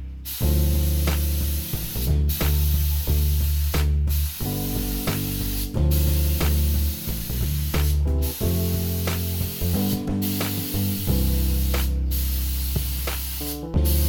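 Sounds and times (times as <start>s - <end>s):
background music with bass: 0.0s - 14.0s
paint spray gun hissing: 0.2s - 14.0s.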